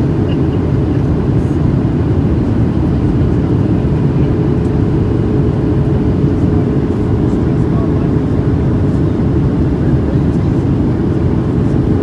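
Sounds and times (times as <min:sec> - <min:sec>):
jet engine cabin drone: 0:00.0 - 0:12.0.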